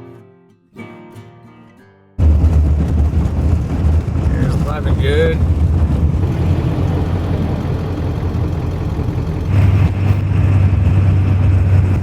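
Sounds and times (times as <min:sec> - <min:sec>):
diesel truck engine running: 0:02.2 - 0:12.0
tyre and road noise: 0:02.2 - 0:12.0.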